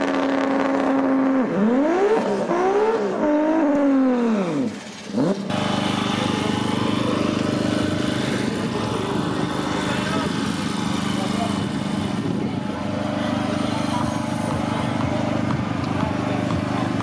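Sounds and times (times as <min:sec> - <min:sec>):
race car engine accelerating: 0:00.0 - 0:17.0
steady engine hum: 0:00.0 - 0:17.0.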